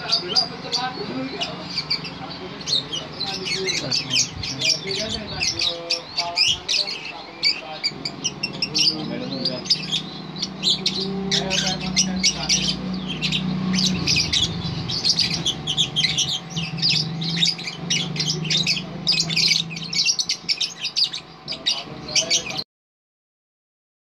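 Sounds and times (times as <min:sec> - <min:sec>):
lovebird chirping and squawking: 0:00.0 - 0:22.6.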